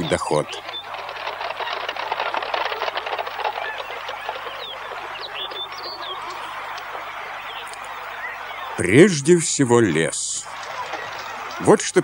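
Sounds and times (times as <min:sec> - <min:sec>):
birds chattering chorus: 0:00.0 - 0:12.0.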